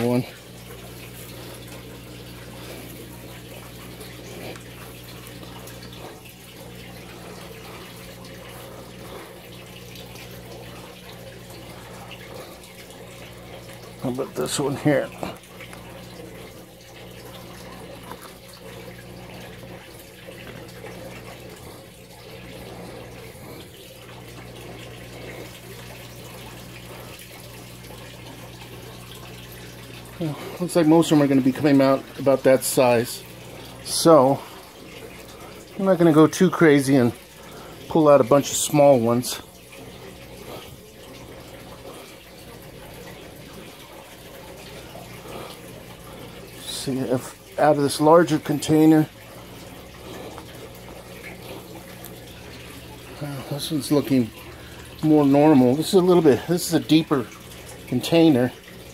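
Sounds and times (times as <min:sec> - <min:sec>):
low steady hum: 0:00.0 - 0:58.9
water running and trickling: 0:00.0 - 0:58.9.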